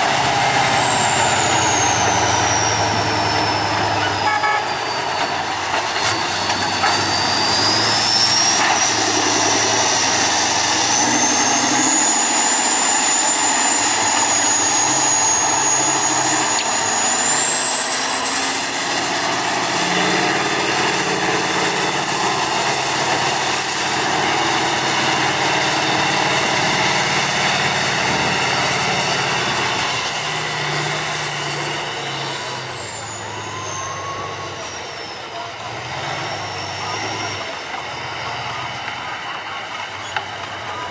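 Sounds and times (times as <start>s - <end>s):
high whine: 0.0s - 35.2s
diesel truck engine under load: 0.0s - 40.9s.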